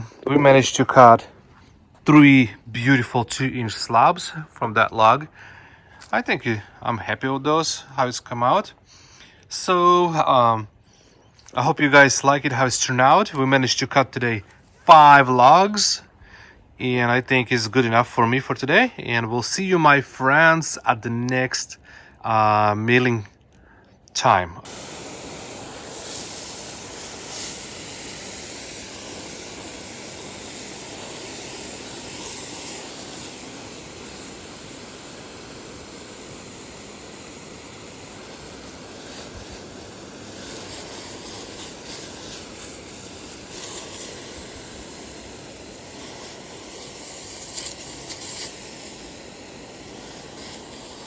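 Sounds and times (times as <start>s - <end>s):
steady hissing: 0.0s - 22.7s, 24.6s - 51.0s.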